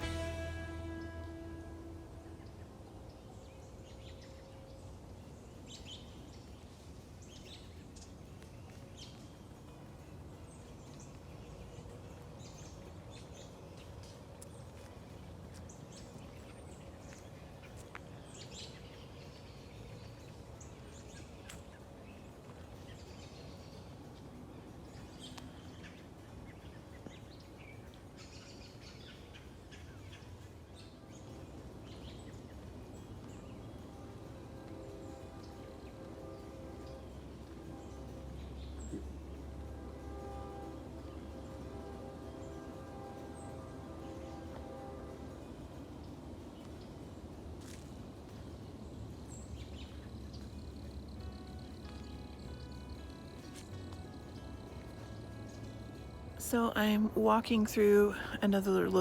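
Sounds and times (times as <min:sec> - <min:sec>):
faint low rumble: 0:00.0 - 0:59.0.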